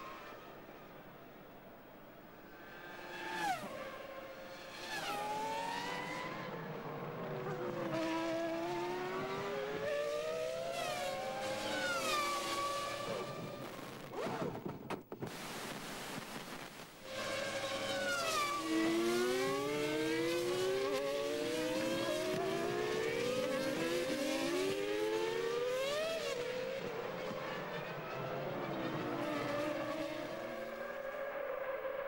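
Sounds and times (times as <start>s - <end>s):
racing car engines revving: 2.4s - 14.7s, 17.0s - 32.0s.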